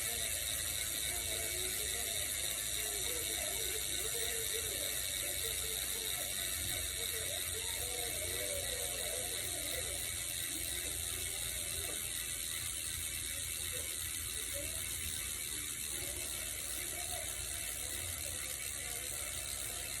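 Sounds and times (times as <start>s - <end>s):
bicycle freehub clicking: 0.0s - 20.0s.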